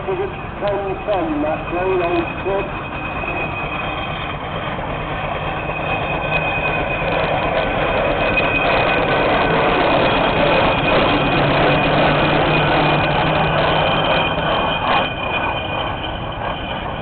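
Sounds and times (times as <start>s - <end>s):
steam engines running: 0.0s - 17.0s.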